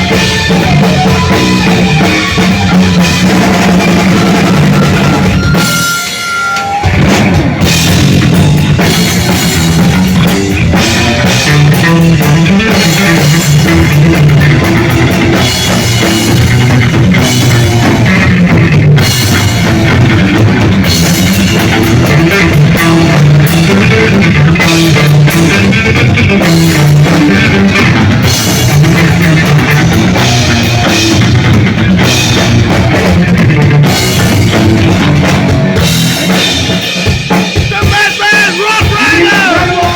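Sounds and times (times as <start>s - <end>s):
heavy-metal drum solo: 0.0s - 39.9s.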